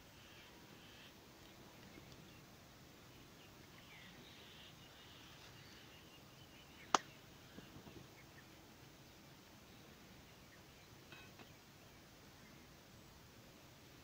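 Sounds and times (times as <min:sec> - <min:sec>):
soft bird chirps: 0:00.1 - 0:13.8.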